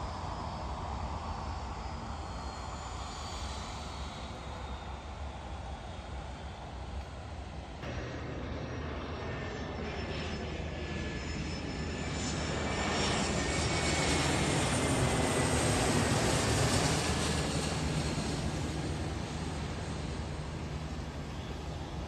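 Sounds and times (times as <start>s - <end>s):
plane flying past: 0.0s - 22.0s.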